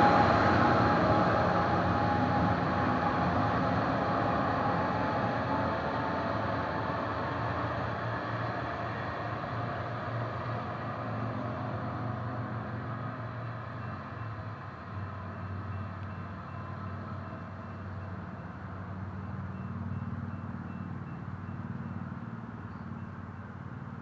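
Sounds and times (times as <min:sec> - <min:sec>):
diesel locomotive engine hum: 0:00.0 - 0:24.0
thin locomotive whine: 0:00.0 - 0:24.0.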